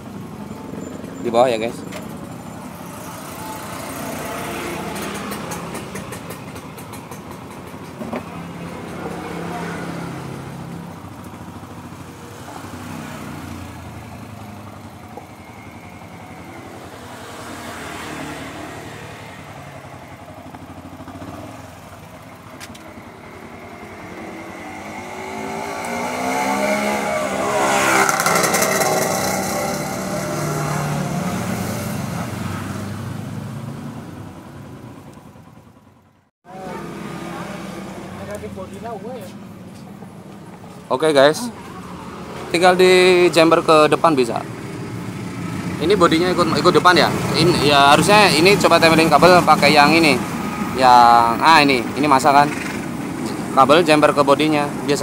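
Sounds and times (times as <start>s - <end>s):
motorcycle engines running: 0.0s - 55.0s
motorcycle passing close by: 2.7s - 35.6s, 36.5s - 55.0s.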